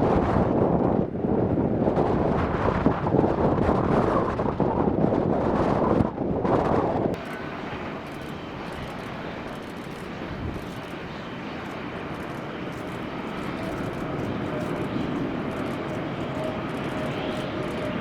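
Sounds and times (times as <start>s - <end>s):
jet engines rushing: 0.0s - 18.0s
loud rushing wind-like noise: 0.0s - 18.0s.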